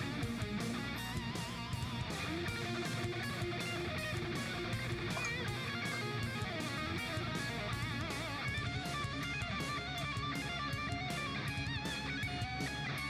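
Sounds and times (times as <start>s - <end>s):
electric guitar music with beat: 0.0s - 13.0s.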